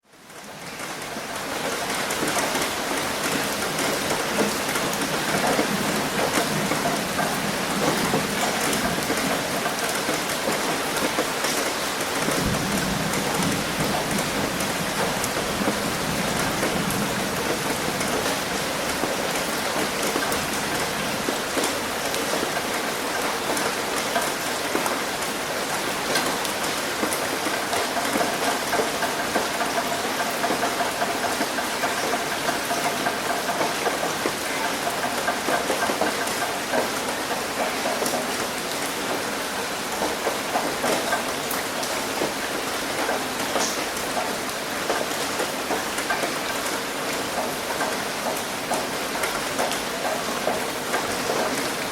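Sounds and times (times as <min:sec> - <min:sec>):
heavy rain on a roof: 0:00.0 - 0:51.9
rain splashing on concrete: 0:00.0 - 0:51.9.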